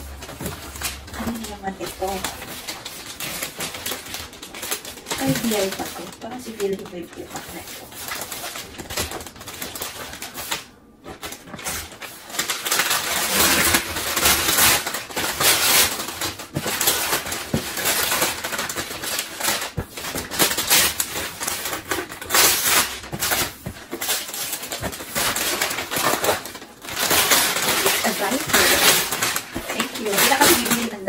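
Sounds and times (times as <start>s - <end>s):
wrapping paper ripping and crinkling: 0.0s - 31.0s.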